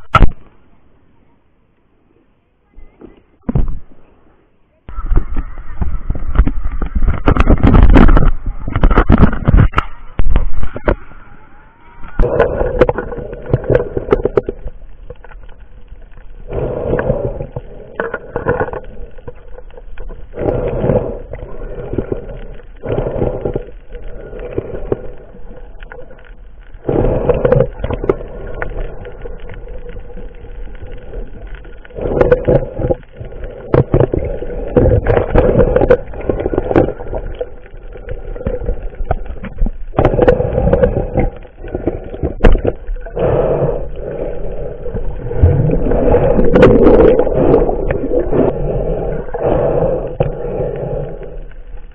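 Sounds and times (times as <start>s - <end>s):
muffled underwater noise: 0.0s - 51.9s.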